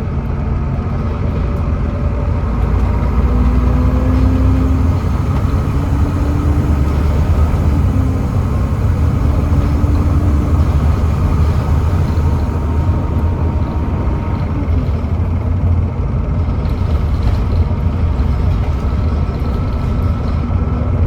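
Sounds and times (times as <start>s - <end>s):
bus engine deep rumble: 0.0s - 21.0s.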